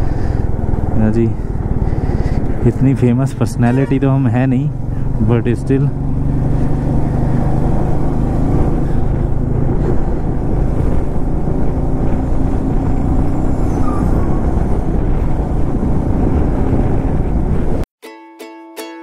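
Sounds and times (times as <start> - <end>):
motorcycle engine rumbling: 0.0 - 17.8.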